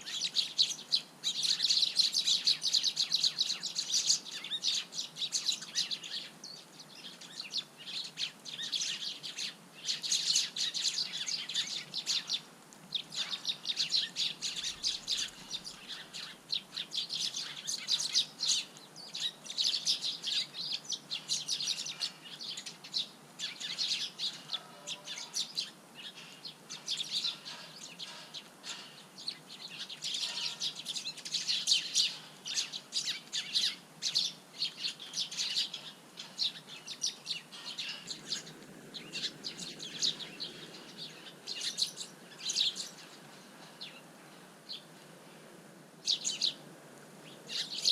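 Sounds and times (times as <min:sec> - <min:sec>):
sparrows chirping: 0:00.0 - 0:47.9.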